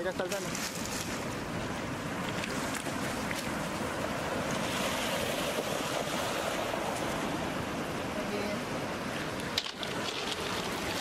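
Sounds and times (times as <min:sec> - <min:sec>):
surf washing over pebble beach: 0:00.0 - 0:11.0.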